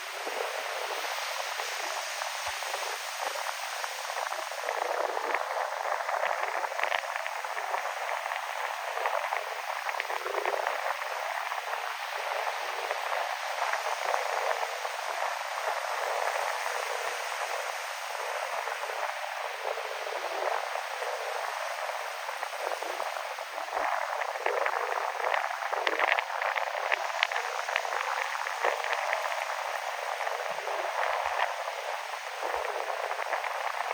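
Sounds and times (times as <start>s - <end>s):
wind: 0.0s - 33.9s.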